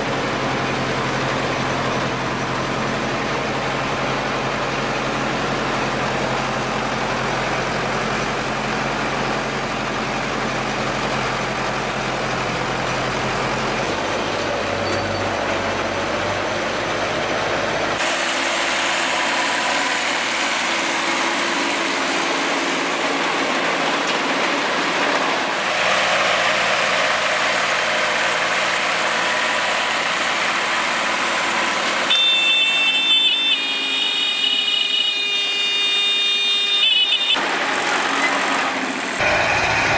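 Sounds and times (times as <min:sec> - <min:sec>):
hay baler working: 0:00.0 - 0:36.2, 0:37.4 - 0:39.9
tractor engine running: 0:00.0 - 0:39.9.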